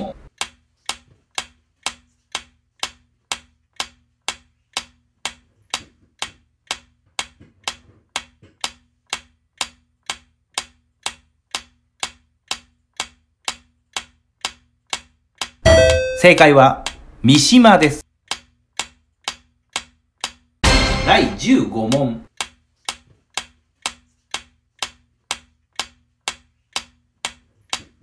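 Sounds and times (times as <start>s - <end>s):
clock ticking: 0.0s - 28.0s.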